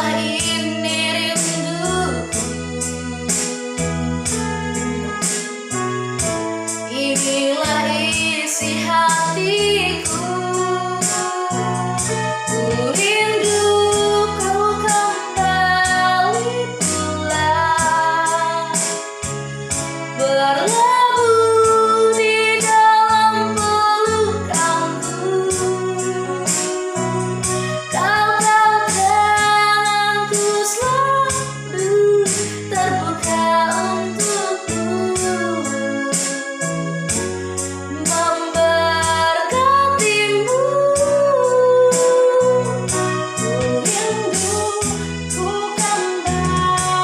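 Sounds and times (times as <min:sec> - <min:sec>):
woman singing: 0:00.0 - 0:02.6, 0:06.9 - 0:19.0, 0:20.2 - 0:36.5, 0:37.9 - 0:47.0
keyboard chords with beat: 0:00.0 - 0:47.0.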